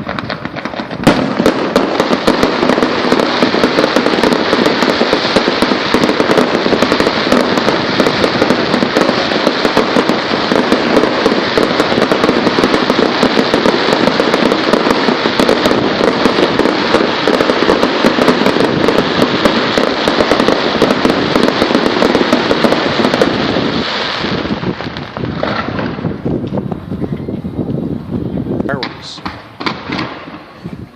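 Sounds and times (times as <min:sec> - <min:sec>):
fireworks banging and crackling: 0:00.0 - 0:30.9.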